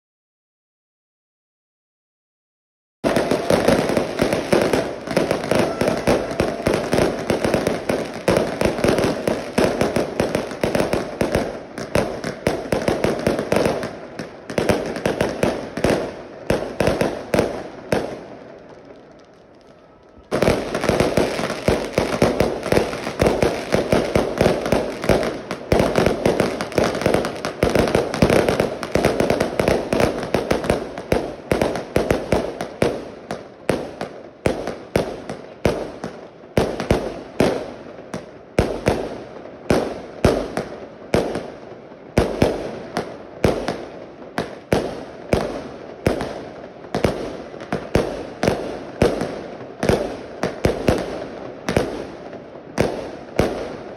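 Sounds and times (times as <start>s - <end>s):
fireworks popping and banging: 3.0s - 53.9s.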